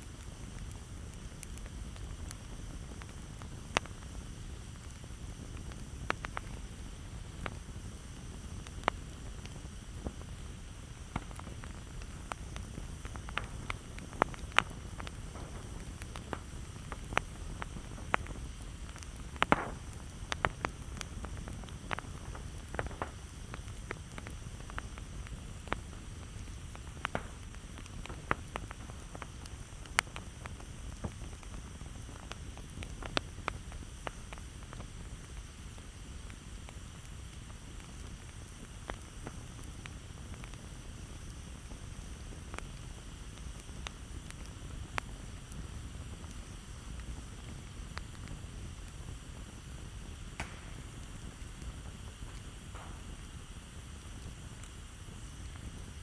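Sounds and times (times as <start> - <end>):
campfire crackling and popping: 0.0 - 56.0
low steady fire rumble: 0.0 - 56.0.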